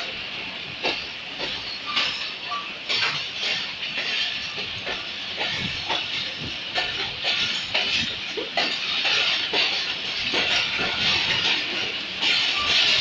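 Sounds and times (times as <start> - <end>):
train wheel and rail hiss: 0.0 - 13.0
wheels clacking over rail joints: 0.8 - 13.0.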